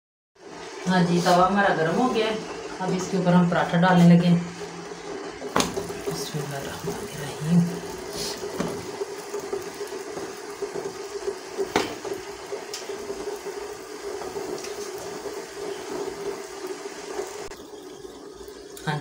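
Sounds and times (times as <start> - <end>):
kitchen background hiss: 0.4 - 19.0.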